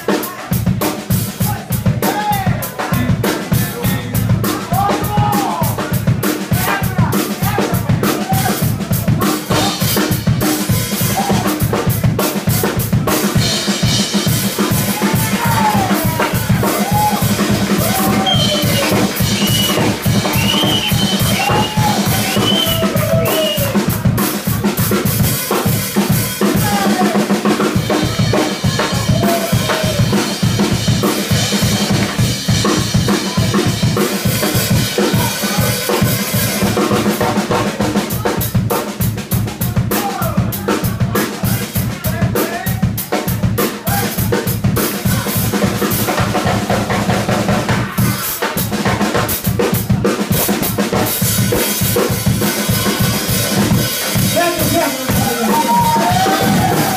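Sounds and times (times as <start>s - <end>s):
drum kit busy beat: 0.0s - 56.9s
electric bass: 0.6s - 56.9s.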